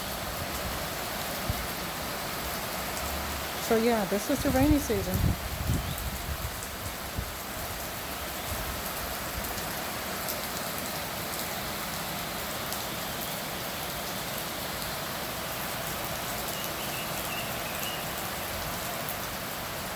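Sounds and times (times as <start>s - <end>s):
steady rainfall hiss: 0.0s - 19.9s.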